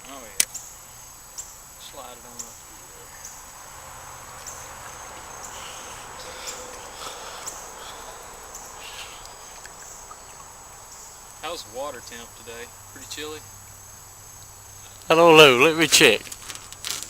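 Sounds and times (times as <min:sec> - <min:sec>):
insects chirping: 0:00.0 - 0:17.0
soft background hiss: 0:00.0 - 0:17.0.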